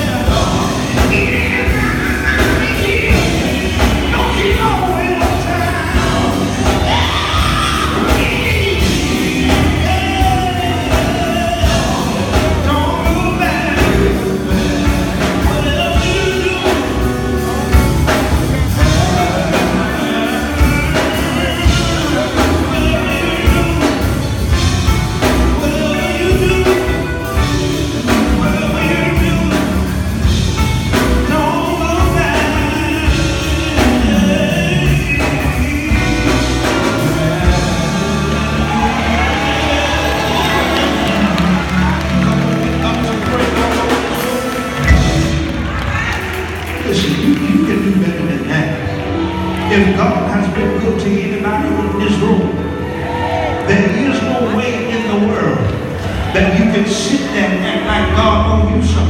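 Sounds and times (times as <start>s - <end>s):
man singing into a microphone: 0.0s - 45.4s, 46.8s - 59.0s
drum kit beat: 0.0s - 49.7s
electric guitar: 0.0s - 54.6s.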